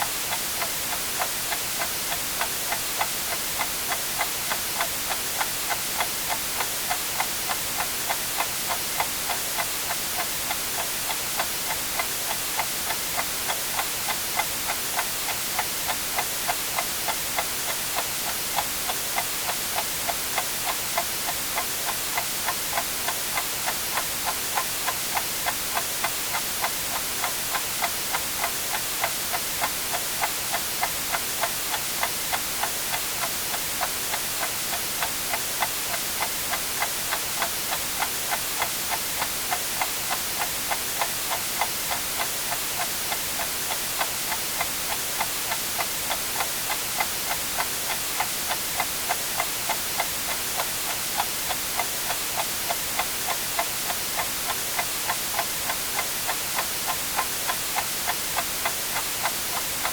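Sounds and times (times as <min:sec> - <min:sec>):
white noise hiss: 0:00.0 - 0:59.9
clock ticking: 0:00.2 - 0:59.9.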